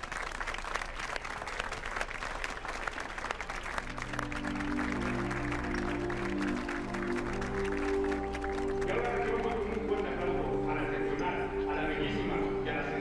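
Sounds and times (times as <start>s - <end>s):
audience clapping: 0.0s - 10.7s.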